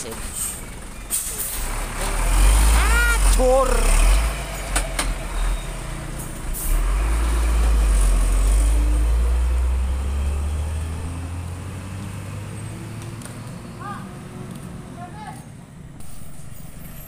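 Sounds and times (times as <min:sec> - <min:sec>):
truck diesel engine driving off: 0:00.0 - 0:14.9.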